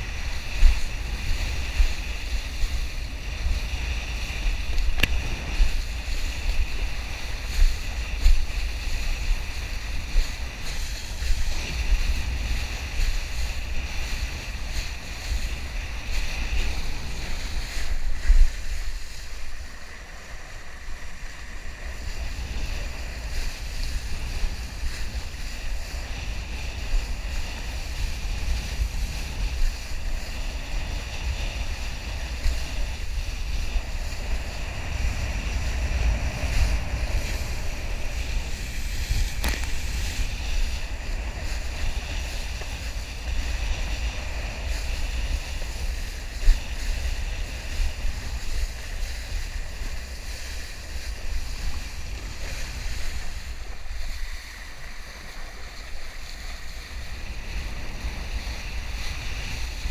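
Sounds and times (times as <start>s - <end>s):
board skimming across water: 0.0s - 59.9s
wind rumbling on microphone: 0.0s - 59.9s.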